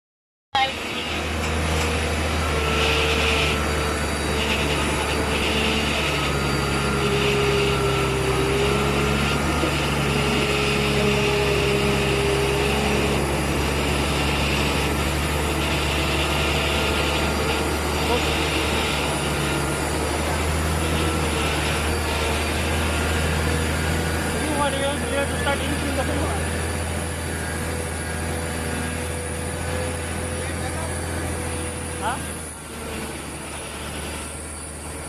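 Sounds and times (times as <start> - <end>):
jet airliner engine drone: 0.6 - 35.0.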